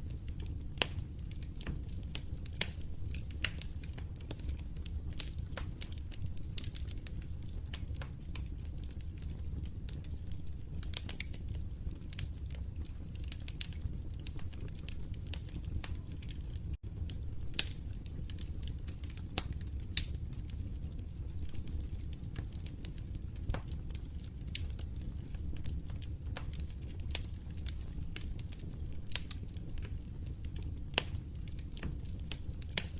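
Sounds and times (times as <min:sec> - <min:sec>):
log fire crackling and popping: 0:00.0 - 0:32.9
low rumble of flames: 0:00.0 - 0:32.9.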